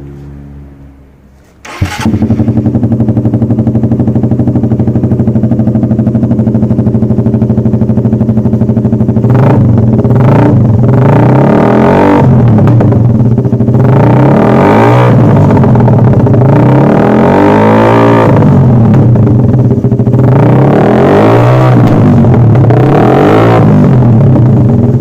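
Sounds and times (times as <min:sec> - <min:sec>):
motorcycle engine revving: 0:01.5 - 0:25.0.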